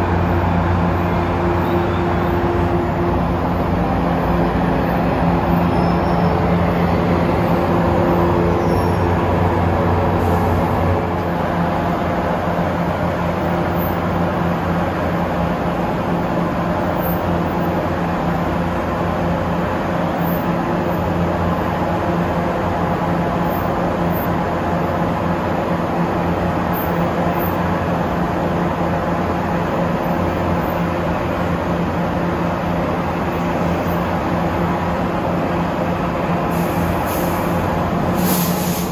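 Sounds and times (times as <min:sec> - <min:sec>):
train mechanical hum: 0:00.0 - 0:38.9.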